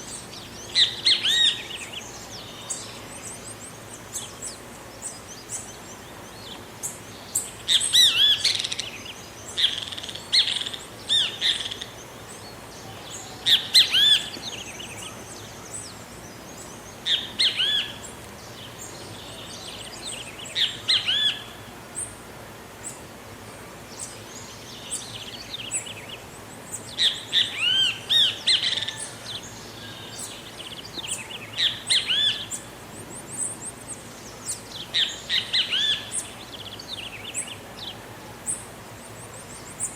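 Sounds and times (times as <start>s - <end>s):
bird calling: 0.0s - 22.2s, 23.9s - 39.9s
faint outdoor hiss: 0.0s - 39.9s.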